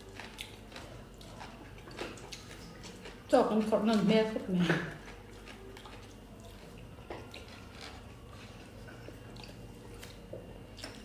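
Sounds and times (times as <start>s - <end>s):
soft chewing: 0.0s - 11.0s
steady low hum: 0.0s - 11.0s.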